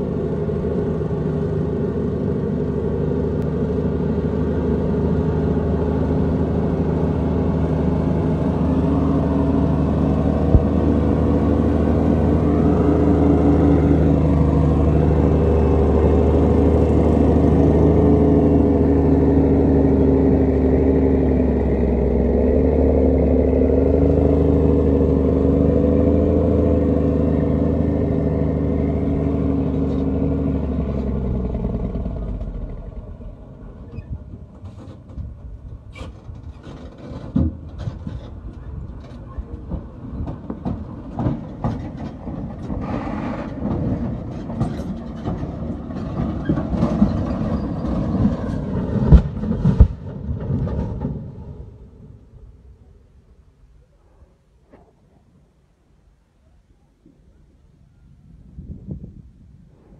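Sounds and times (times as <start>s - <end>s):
truck diesel engines under load: 0.0s - 59.9s.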